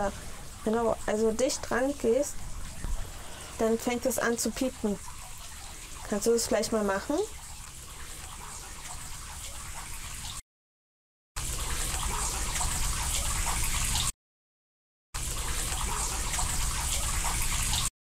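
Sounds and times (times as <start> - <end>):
running water rushing: 0.0 - 10.4, 11.4 - 14.1, 15.2 - 17.9.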